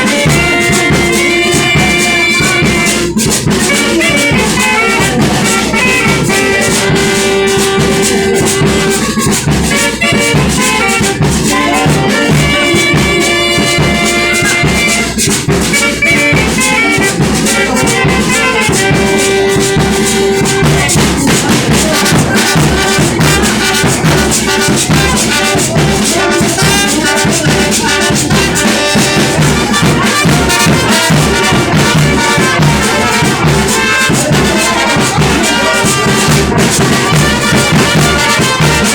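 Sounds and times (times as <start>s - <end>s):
brass band music: 0.0s - 38.9s
drums keeping steady beat: 0.0s - 38.9s.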